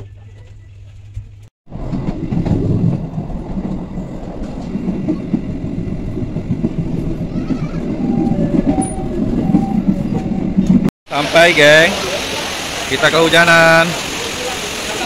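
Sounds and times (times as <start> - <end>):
train wheels rumbling on track: 1.7 - 15.0.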